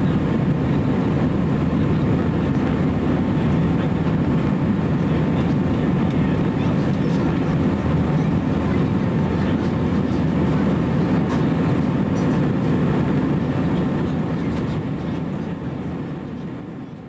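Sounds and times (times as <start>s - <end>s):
airplane cabin roar: 0.0s - 17.0s.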